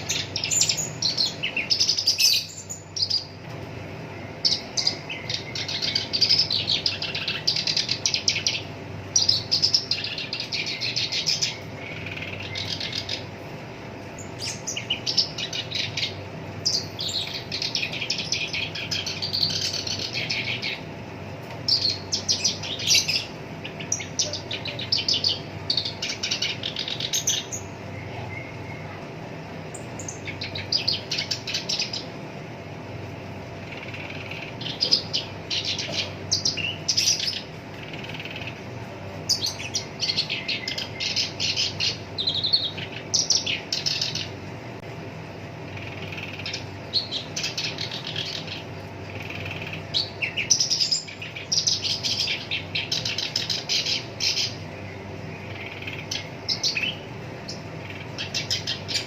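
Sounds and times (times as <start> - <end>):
warbler harsh chattering song: 0.0 - 59.0.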